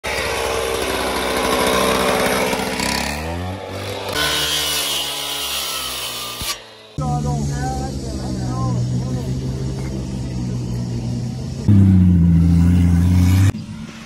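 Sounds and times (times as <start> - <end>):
cut-off saw engine running: 0.0 - 13.5.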